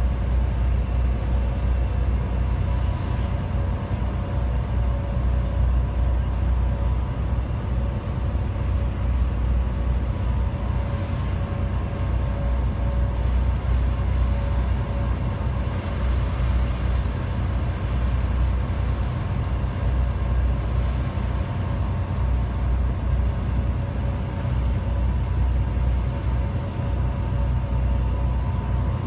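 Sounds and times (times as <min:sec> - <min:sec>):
ferry engines droning: 0:00.0 - 0:29.0.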